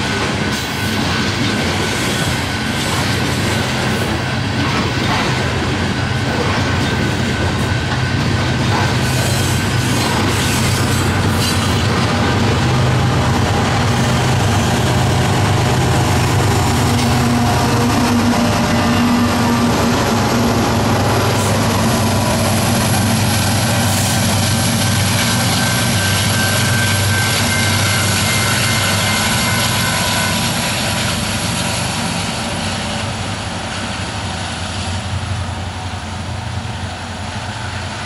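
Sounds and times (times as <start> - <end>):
diesel locomotive engines running: 0.0 - 38.0
train wheels rumbling on rails: 0.0 - 38.0.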